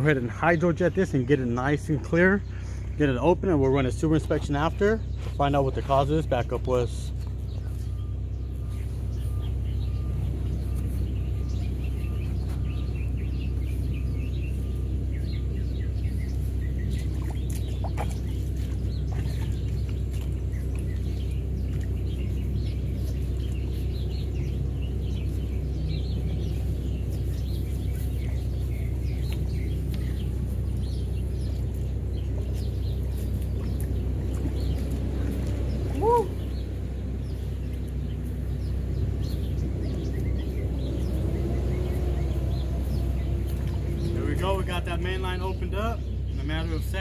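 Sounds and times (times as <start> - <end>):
birds chirping: 0.0 - 47.0
engine and pump droning: 0.0 - 47.0.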